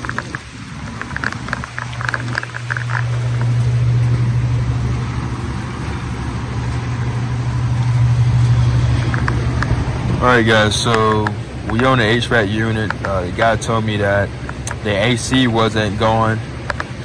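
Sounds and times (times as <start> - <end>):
air conditioner humming: 0.0 - 17.0
rain falling: 0.0 - 17.0.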